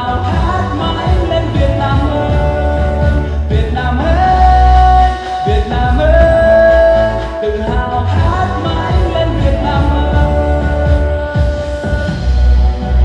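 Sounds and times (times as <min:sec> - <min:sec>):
pop song through speaker: 0:00.0 - 0:13.0.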